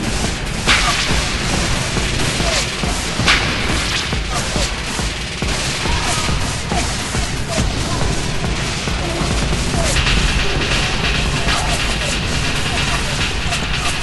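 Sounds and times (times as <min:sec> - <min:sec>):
gunshots: 0:00.0 - 0:14.0
low battle rumble: 0:00.0 - 0:14.0.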